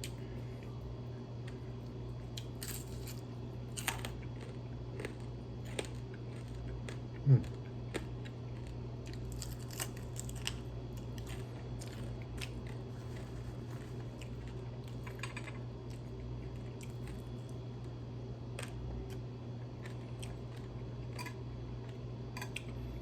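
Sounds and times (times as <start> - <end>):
crunching and chewing crispy food: 0.0 - 23.0
steady low hum: 0.0 - 23.0.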